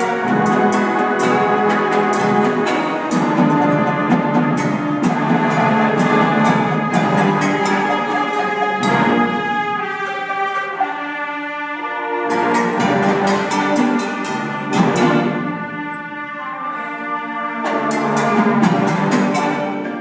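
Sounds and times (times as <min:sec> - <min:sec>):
sharp percussion strikes: 0:00.0 - 0:10.8, 0:12.3 - 0:16.0, 0:17.7 - 0:20.0
symphonic band playing: 0:00.0 - 0:20.0.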